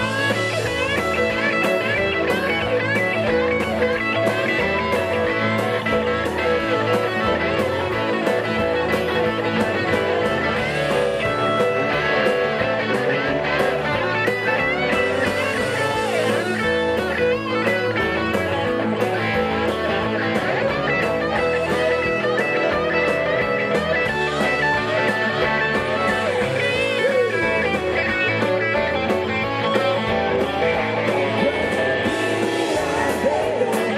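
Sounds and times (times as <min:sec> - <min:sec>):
bass guitar: 0:00.0 - 0:33.9
electric guitar lead: 0:00.0 - 0:33.9
steady drum beat: 0:00.0 - 0:33.9.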